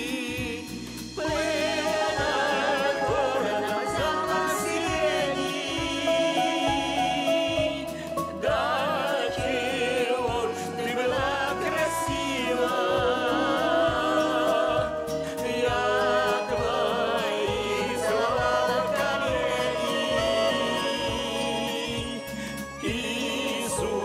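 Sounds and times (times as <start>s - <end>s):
instrumental accompaniment: 0.0s - 24.0s
vocal ensemble singing slow song: 0.0s - 24.0s.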